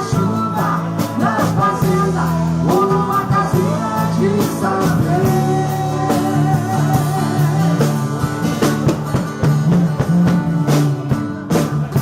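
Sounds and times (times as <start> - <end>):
bass line: 0.0 - 12.0
drum kit beat: 0.0 - 12.0
guitar: 0.0 - 12.0.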